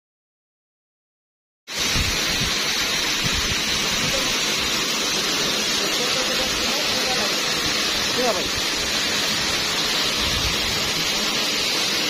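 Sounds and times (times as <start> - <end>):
waterfall roaring: 1.7 - 12.0.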